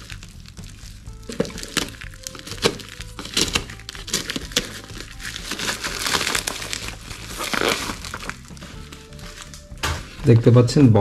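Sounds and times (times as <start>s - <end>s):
packaging crinkling: 0.0s - 10.6s.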